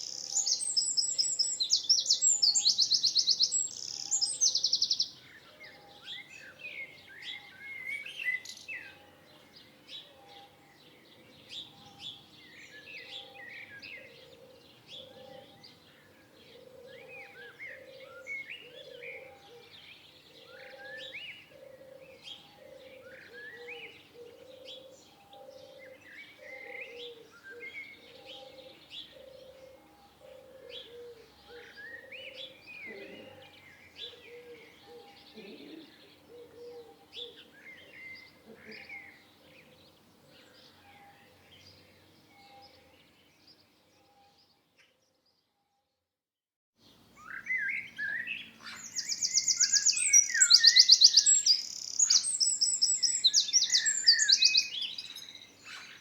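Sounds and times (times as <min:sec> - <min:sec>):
songbirds chirping and singing: 0:00.0 - 0:45.6, 0:46.8 - 0:56.0.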